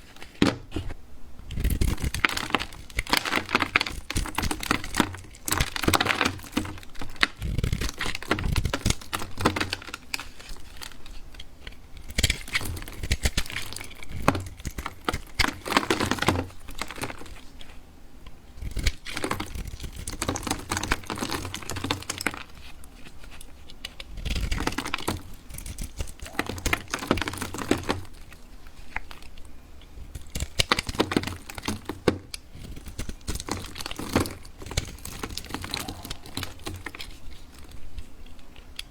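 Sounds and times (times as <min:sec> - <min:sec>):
blade cutting soap crackling: 0:00.0 - 0:38.9.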